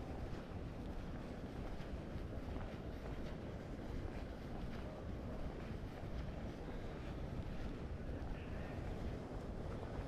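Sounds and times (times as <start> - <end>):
faint footsteps: 0.0 - 10.0
wind rumbling on microphone: 0.0 - 10.0.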